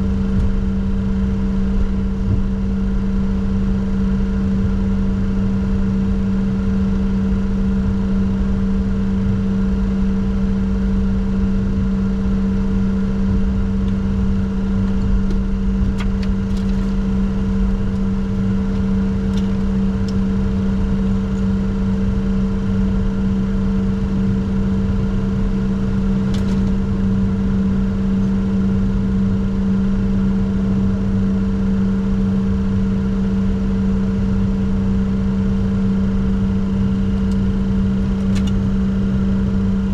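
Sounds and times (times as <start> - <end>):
jet cockpit engine hum: 0.0 - 39.9.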